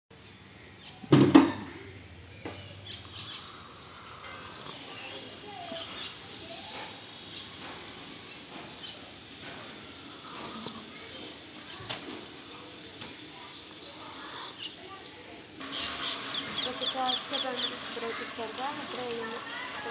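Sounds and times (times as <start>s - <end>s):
small birds chirping: 0.4s - 19.9s.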